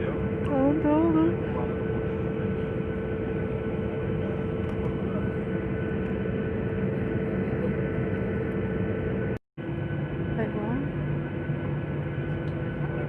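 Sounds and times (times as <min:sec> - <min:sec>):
airliner engines droning in cabin: 0:00.0 - 0:13.0.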